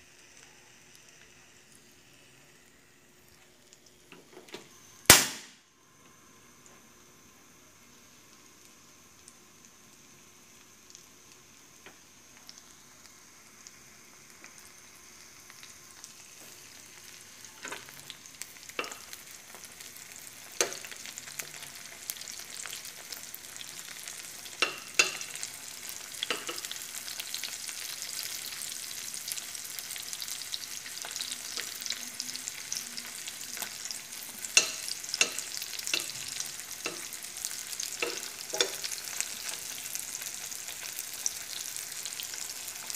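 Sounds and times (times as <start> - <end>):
hot dogs sizzling in a pan: 0.0 - 42.9.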